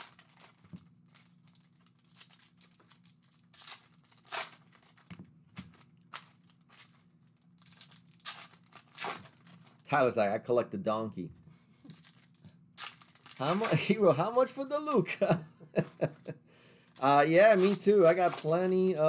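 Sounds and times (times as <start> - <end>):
foil wrapper crinkling and tearing: 0.0 - 5.1, 5.7 - 9.9, 11.8 - 15.2, 15.8 - 19.0.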